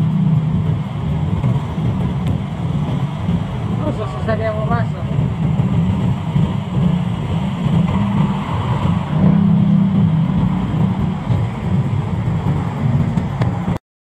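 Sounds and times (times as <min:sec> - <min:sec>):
scooter engines droning: 0:00.0 - 0:13.8.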